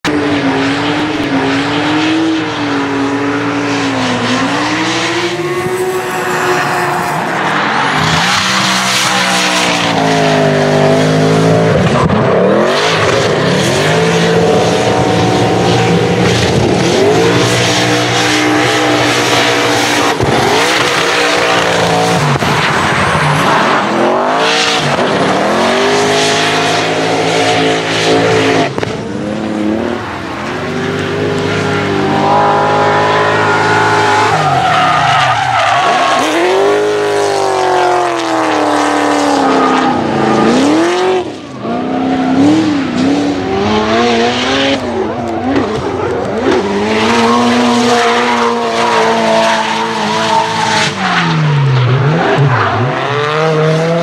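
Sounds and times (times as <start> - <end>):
car engine revving: 0.1 - 54.0.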